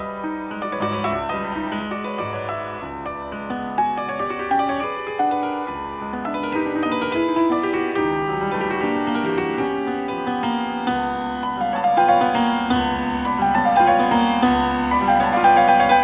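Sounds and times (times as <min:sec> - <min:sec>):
grand piano playing fast passage: 0:00.0 - 0:16.0.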